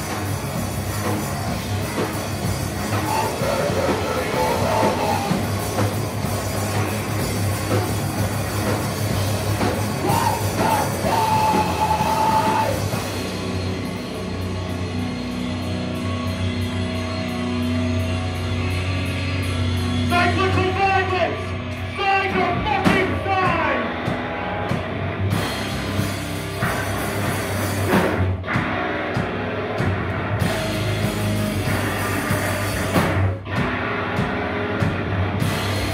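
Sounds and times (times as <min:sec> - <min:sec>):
live heavy rock band: 0:00.0 - 0:35.9
ringing guitar and bass notes: 0:00.0 - 0:35.9.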